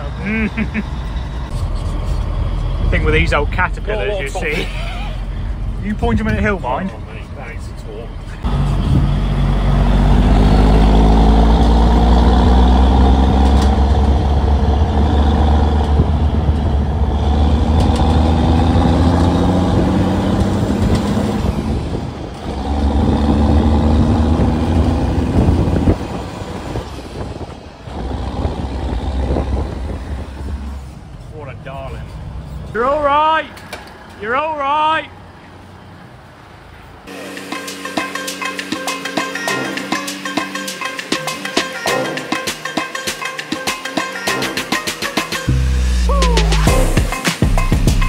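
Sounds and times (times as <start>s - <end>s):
diesel lorry engine pulling: 0.0s - 41.8s.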